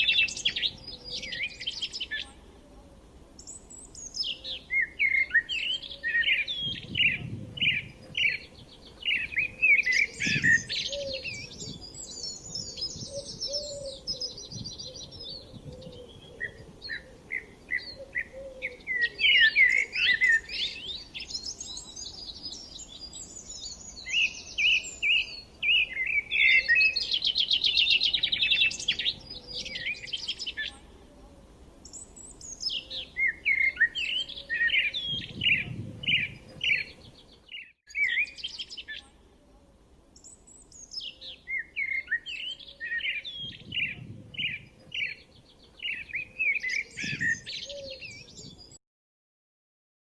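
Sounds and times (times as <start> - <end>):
songbird trill: 0.0 - 48.8.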